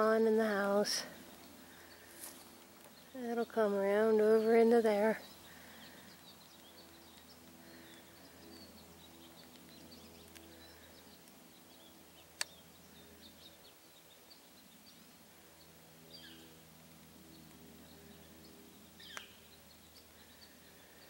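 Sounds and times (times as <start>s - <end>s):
low steady hum: 0.0s - 21.0s
small birds chirping: 0.0s - 21.0s.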